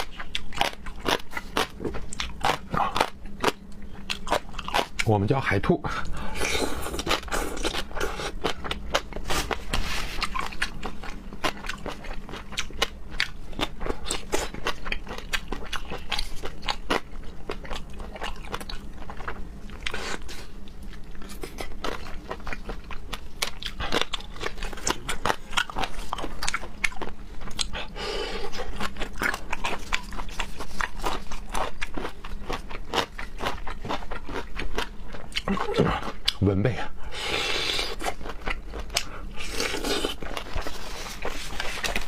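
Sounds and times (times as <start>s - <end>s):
chewing raw seafood: 0.0s - 5.4s, 6.0s - 42.0s.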